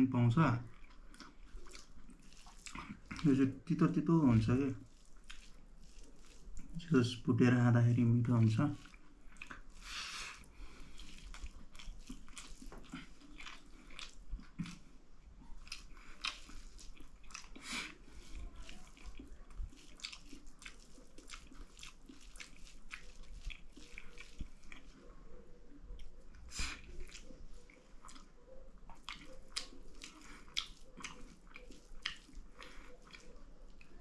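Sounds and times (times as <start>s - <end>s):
chewing food: 0.3s - 7.2s, 7.9s - 34.0s
wet smacking and mouth clicks: 0.7s - 3.8s, 4.5s - 7.0s, 8.7s - 25.0s, 25.9s - 34.0s.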